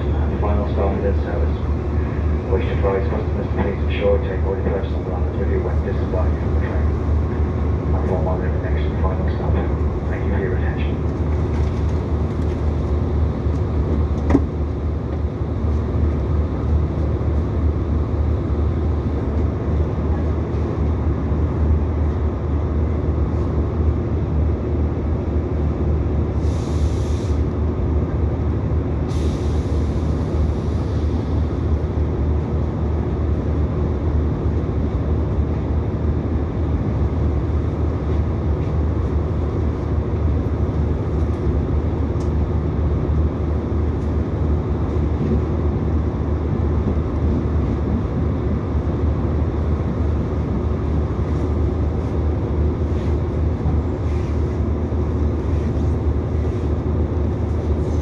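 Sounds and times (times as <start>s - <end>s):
train engine hum: 0.0s - 58.0s
wheel and track rumble: 0.0s - 58.0s.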